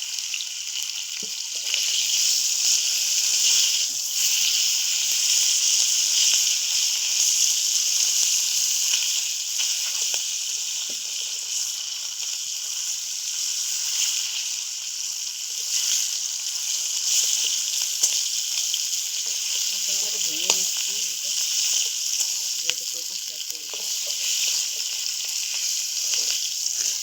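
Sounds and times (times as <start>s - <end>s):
fish frying in oil: 0.0s - 27.0s.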